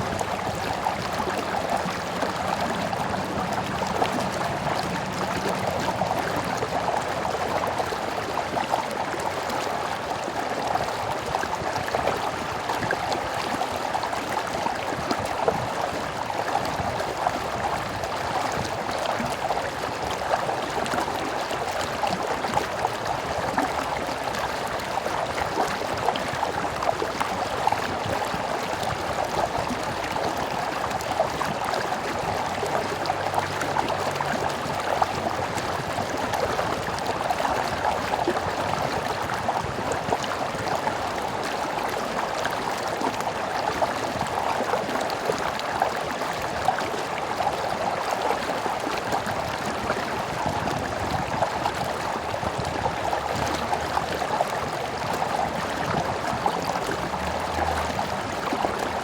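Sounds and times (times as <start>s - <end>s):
stream water burbling: 0.0s - 59.0s.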